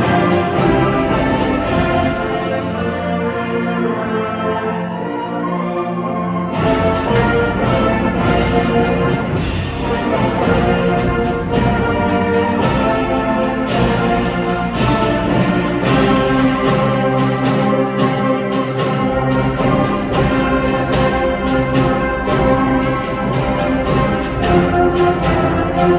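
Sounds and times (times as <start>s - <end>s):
percussion strikes: 0.0s - 25.9s
wind band playing: 0.0s - 25.9s.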